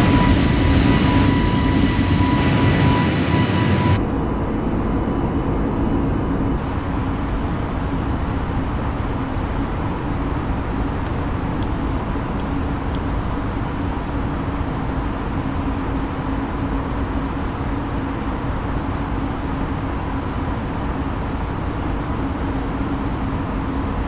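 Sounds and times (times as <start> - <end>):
airflow rush in aircraft cabin: 0.0 - 24.0
high engine whine: 0.0 - 24.0
steady low hum: 0.0 - 24.0.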